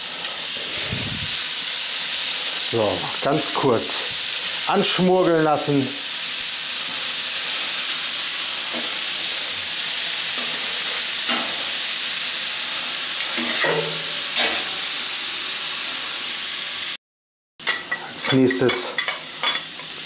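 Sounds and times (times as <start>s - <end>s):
onions sizzling in oil: 0.0s - 17.0s, 17.6s - 20.0s.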